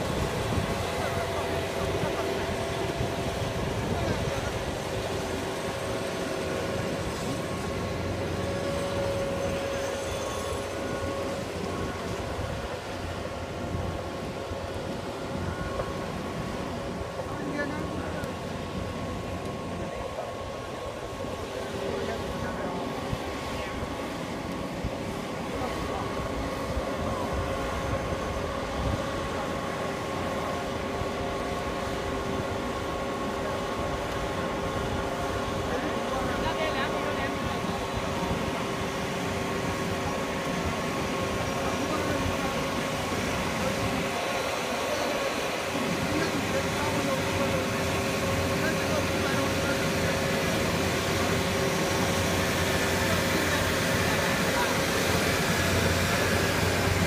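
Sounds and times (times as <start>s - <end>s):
thin whine: 0.0s - 57.0s
tractor engine running: 0.0s - 57.0s.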